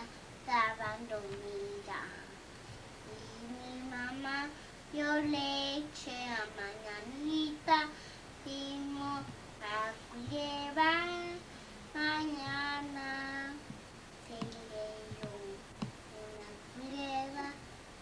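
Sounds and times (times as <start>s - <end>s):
toddler girl singing: 0.0s - 2.3s, 3.1s - 13.6s, 14.3s - 17.6s.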